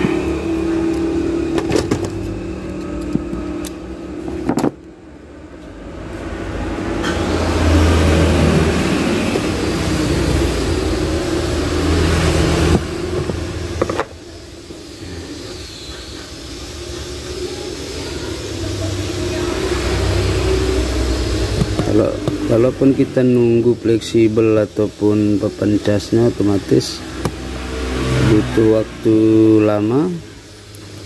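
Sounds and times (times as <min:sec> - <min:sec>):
vehicle engine running: 0:05.8 - 0:31.0.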